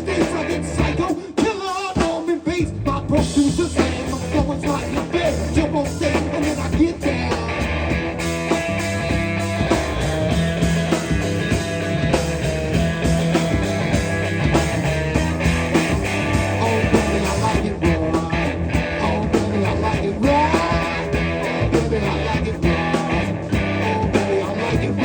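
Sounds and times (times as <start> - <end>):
bass line: 0.0 - 1.2, 2.4 - 25.0
electric guitar: 0.0 - 25.0.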